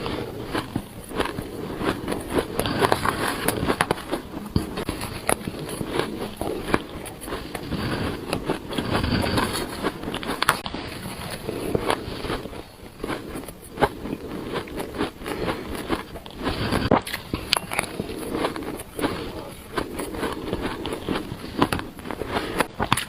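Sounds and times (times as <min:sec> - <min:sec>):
chewing crunchy ice: 0:00.0 - 0:23.0.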